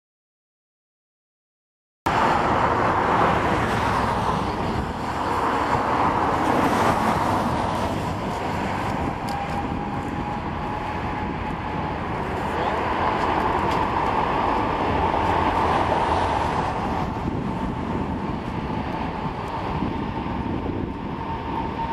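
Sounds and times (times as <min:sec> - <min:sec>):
faint jet whine: 0:02.1 - 0:21.9
jet engines rushing: 0:02.1 - 0:21.9.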